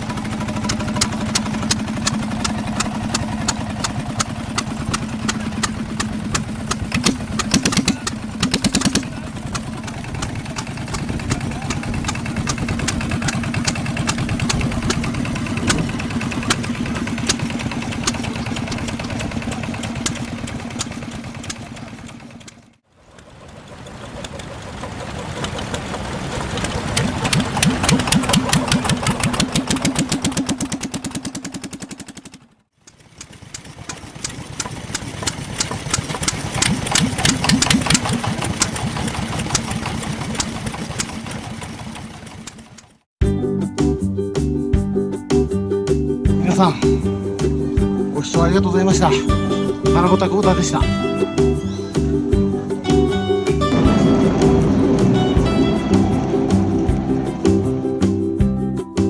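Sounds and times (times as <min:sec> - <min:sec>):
diesel engine running: 0:00.0 - 0:43.5, 0:46.3 - 0:59.0.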